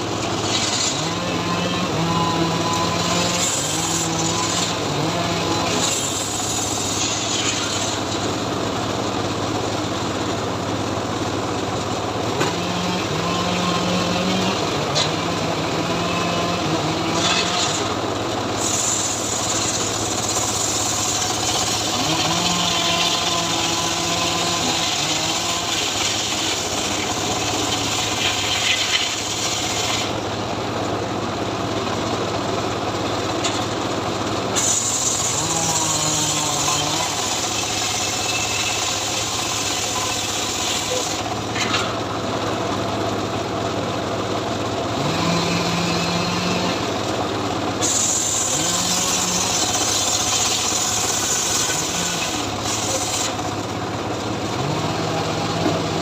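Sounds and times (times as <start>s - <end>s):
sawmill cutting wood: 0.0s - 56.0s.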